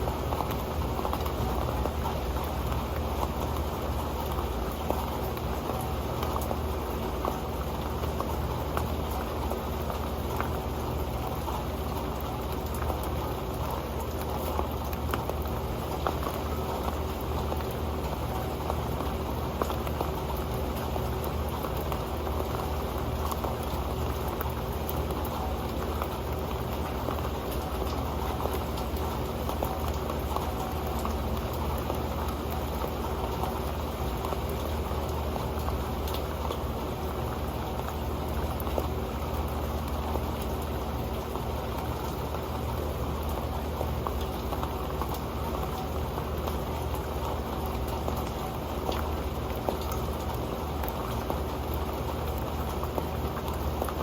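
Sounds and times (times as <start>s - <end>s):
rain pattering on a pan: 0.0s - 54.0s.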